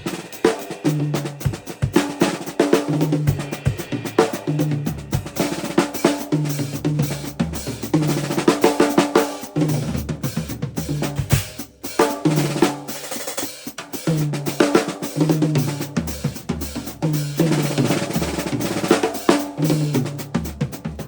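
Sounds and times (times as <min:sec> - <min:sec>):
drum kit playing fast: 0:00.0 - 0:21.0.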